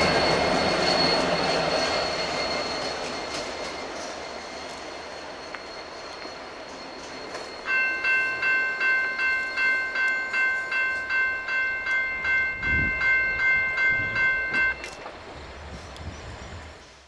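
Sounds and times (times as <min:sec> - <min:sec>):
railroad bell ringing: 0:00.0 - 0:15.1.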